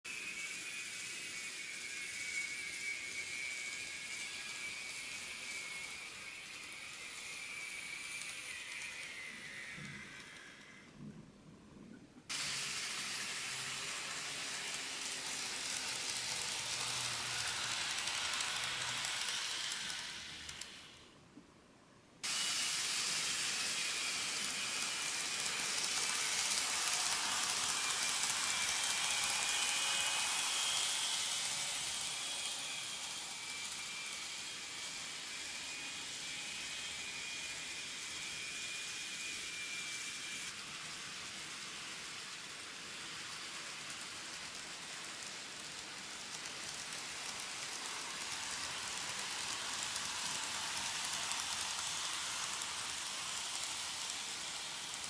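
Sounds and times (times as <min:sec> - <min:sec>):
model train wheels whirring: 0:00.0 - 0:11.2, 0:12.2 - 0:21.2, 0:22.2 - 0:55.0
faint motor whine: 0:00.1 - 0:55.0.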